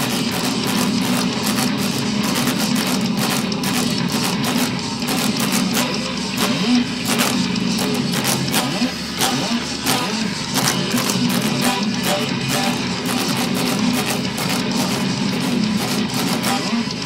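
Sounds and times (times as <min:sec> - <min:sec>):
electric guitar metal riff: 0:00.0 - 0:17.0.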